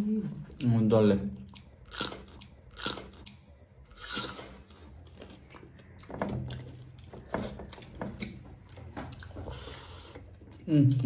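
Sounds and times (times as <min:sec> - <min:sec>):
people chewing: 0:00.0 - 0:11.0.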